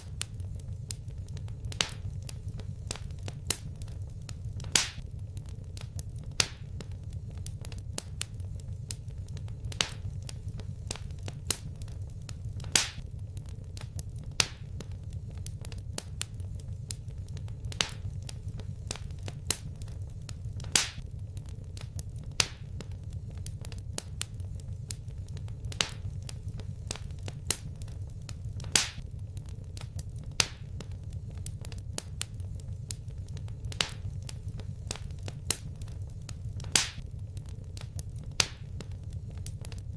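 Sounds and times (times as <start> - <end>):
fire pops and snaps: 0.0 - 39.9
low rumble of burning: 0.0 - 39.9.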